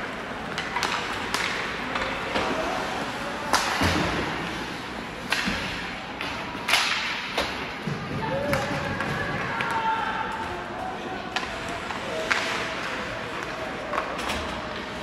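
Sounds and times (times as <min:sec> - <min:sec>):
hockey sticks and puck hitting boards: 0:00.0 - 0:10.6, 0:11.3 - 0:15.0
ice rink background noise: 0:00.0 - 0:15.0.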